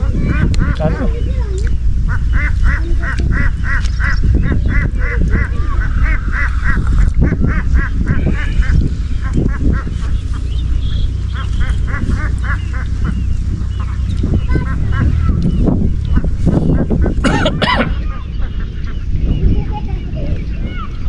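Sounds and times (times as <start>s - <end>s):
low rumble: 0.0s - 21.0s
bird calling repeated notes: 0.3s - 21.0s.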